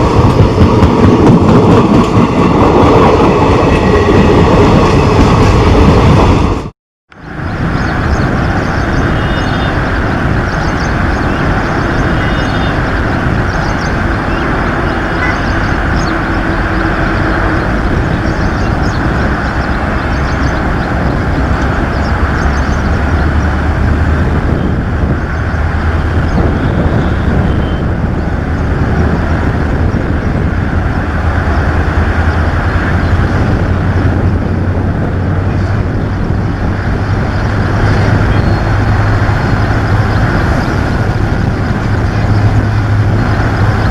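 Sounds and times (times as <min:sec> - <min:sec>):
diesel locomotive engine drone: 0:00.0 - 0:43.9
train running noise: 0:00.0 - 0:43.9.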